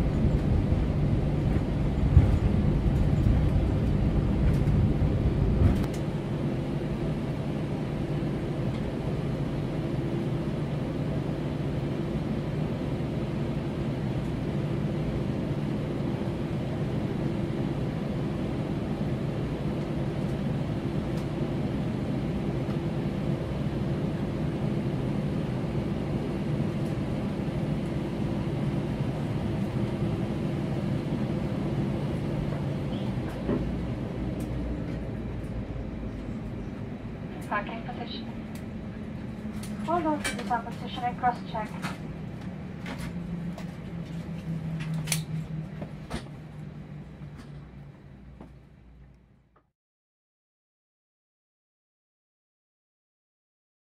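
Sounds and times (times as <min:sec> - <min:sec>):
jet engines idling: 0:00.0 - 0:49.5.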